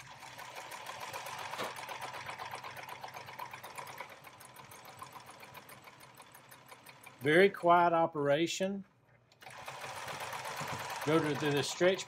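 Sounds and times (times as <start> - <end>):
sewing machine ticking: 0.0 - 8.1, 9.3 - 12.0.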